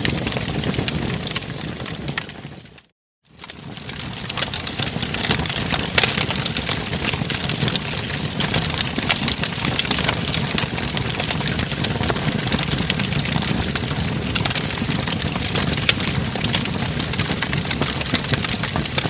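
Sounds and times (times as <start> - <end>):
fire low rumble: 0.0 - 2.8, 3.4 - 19.0
wood fire crackling: 0.0 - 19.0.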